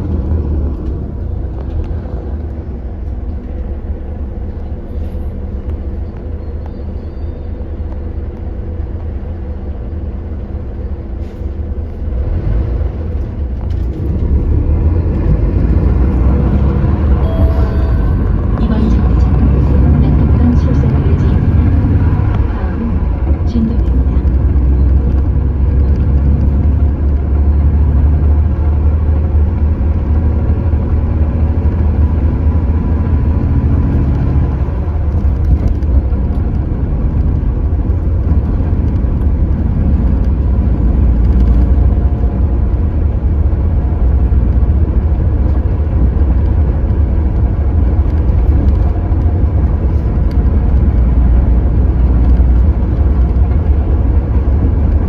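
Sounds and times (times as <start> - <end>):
bus engine droning: 0.0 - 55.0.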